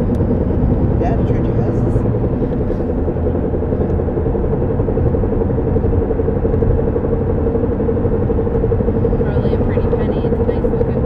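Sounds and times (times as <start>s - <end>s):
low road rumble: 0.0s - 11.0s
pulsing wheel hum: 0.0s - 11.0s.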